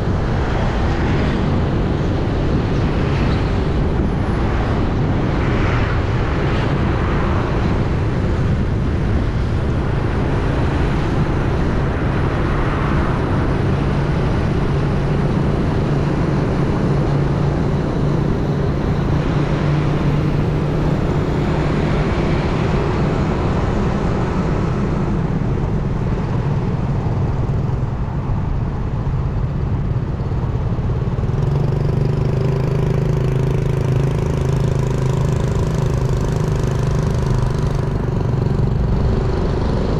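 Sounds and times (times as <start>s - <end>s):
road and wind rush: 0.0s - 39.9s
vehicle engine hum: 0.0s - 39.9s.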